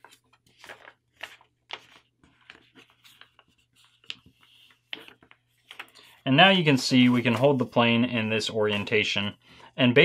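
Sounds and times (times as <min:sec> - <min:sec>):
paper rustling and creasing: 0:00.0 - 0:08.1.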